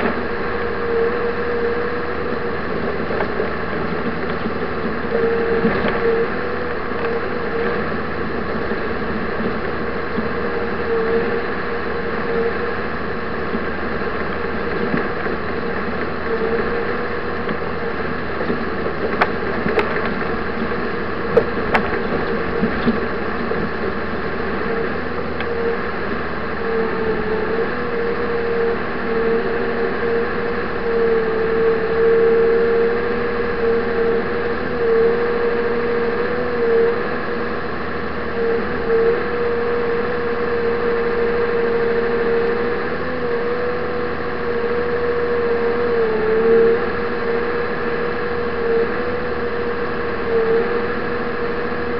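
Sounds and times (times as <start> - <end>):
steady whine: 0.0 - 51.9
tracked vehicle engine running: 0.0 - 51.9.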